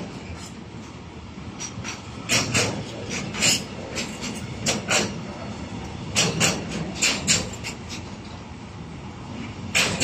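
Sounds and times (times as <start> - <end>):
train wheels clacking over rails: 0.0 - 8.5, 9.3 - 10.0.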